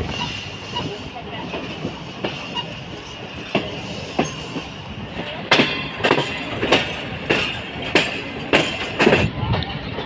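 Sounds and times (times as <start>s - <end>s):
train rumbling on track: 0.0s - 10.0s
wheels clacking over rail joints: 0.0s - 10.0s.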